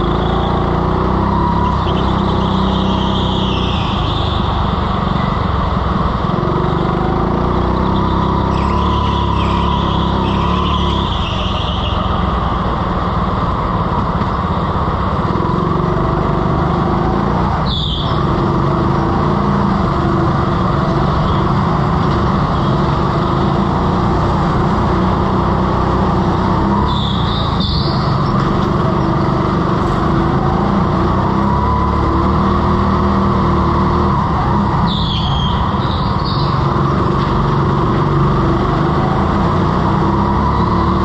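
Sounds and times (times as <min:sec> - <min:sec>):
high-pitched tyre squeals: 0:00.0 - 0:05.8, 0:06.4 - 0:13.0, 0:16.4 - 0:41.0
go-kart motor and rolling: 0:00.0 - 0:41.0.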